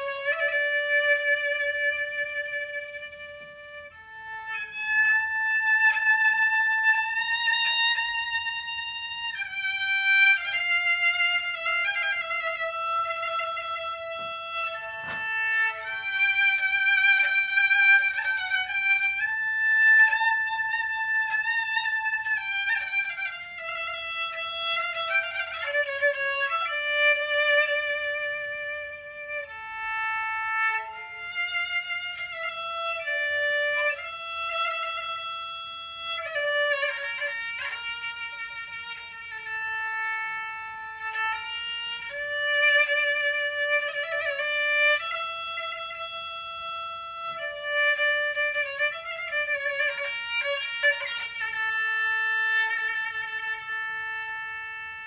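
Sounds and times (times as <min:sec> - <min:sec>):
violin melody: 0:00.0 - 0:55.0.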